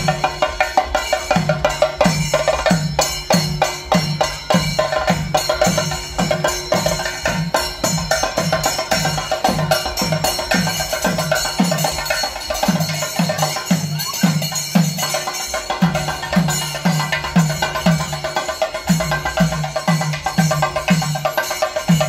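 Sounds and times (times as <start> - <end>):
drum ensemble driving rhythm: 0.0 - 22.0.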